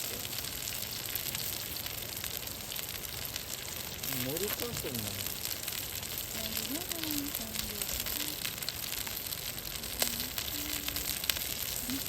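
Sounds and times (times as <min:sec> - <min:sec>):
food sizzling on a grill: 0:00.0 - 0:12.0.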